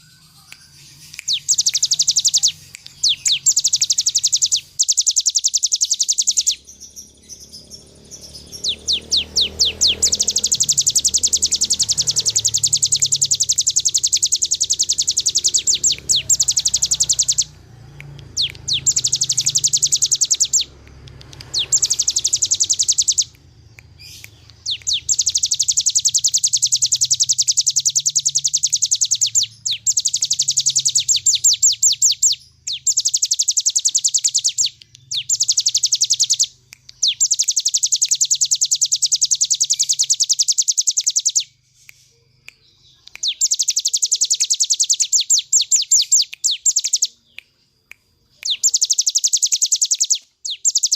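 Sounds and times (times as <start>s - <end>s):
bird singing rapid trills: 0.0s - 50.9s.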